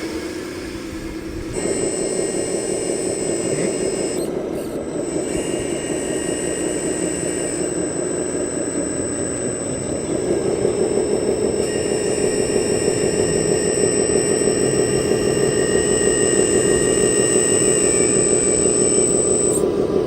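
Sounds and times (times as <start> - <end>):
high whining tones: 0.0 - 20.0
model vehicle mechanical noise: 0.0 - 20.0.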